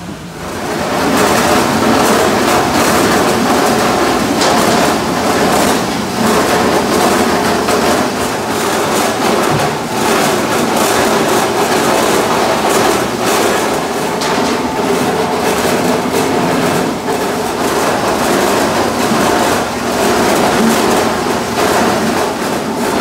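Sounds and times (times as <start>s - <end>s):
apples clattering on rollers: 0.5s - 23.0s
machinery motor running: 0.8s - 23.0s.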